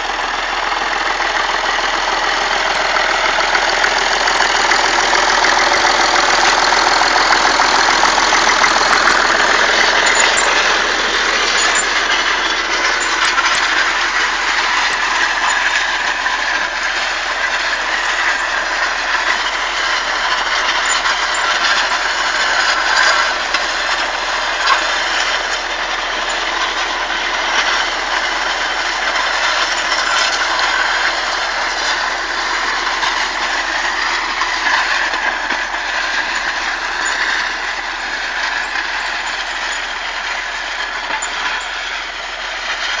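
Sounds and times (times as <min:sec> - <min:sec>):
tractor engine running under load: 0:00.0 - 0:43.0.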